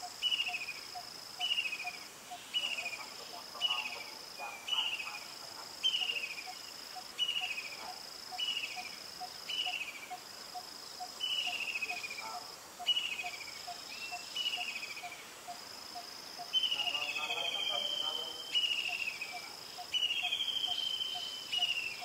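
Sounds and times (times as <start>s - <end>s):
falling insect chirps: 0.0s - 22.0s.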